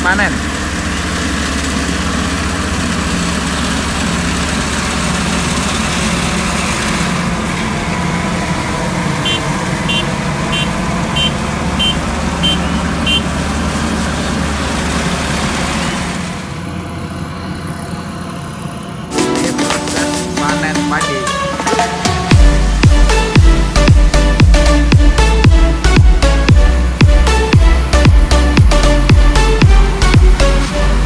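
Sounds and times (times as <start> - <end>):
combine harvester engine running: 0.0 - 31.0.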